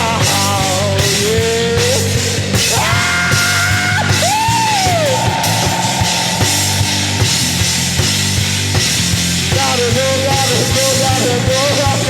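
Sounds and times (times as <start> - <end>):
rock band music: 0.0 - 12.0.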